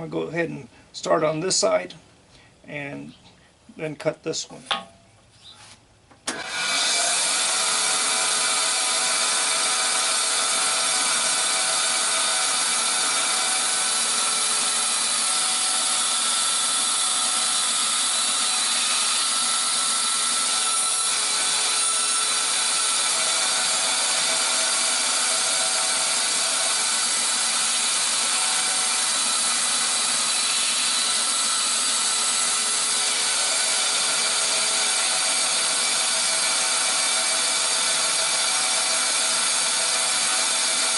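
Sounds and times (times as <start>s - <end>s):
bandsaw cutting plywood: 6.3s - 40.9s.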